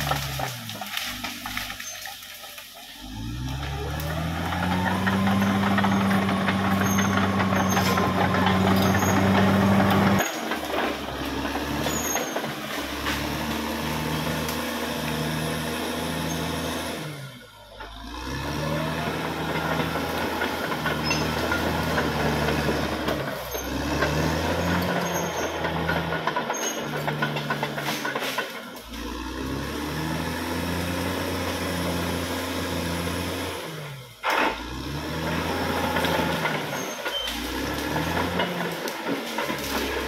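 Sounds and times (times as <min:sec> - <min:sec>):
bulldozer diesel engine revving: 0:00.0 - 0:40.0.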